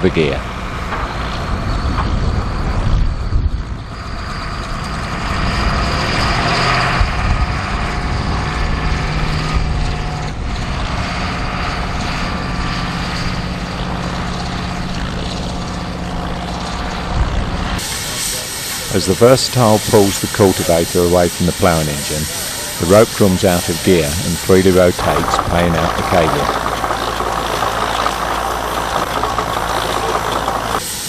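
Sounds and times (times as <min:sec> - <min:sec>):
tractor engine running under load: 0:03.8 - 0:31.0.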